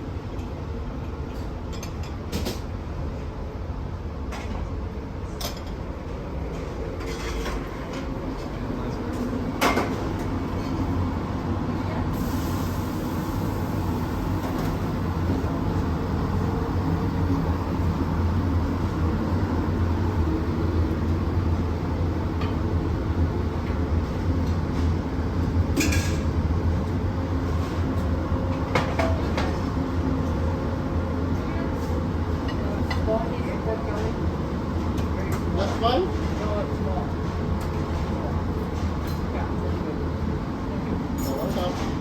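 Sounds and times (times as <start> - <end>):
low machinery hum: 2.7 - 42.0.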